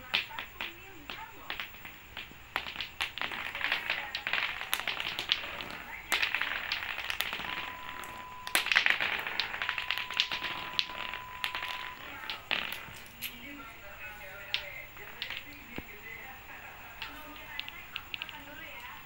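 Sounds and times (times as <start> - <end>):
clacker toy balls clacking: 0.0 - 19.0.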